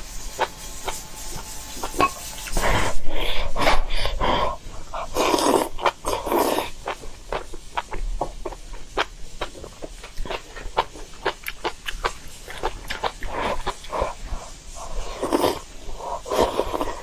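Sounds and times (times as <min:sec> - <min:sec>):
person chewing noisily: 0:00.3 - 0:17.0.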